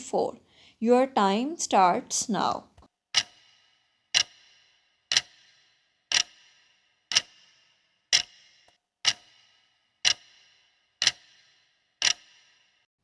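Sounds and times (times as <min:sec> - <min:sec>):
clock ticking: 0:00.0 - 0:12.6.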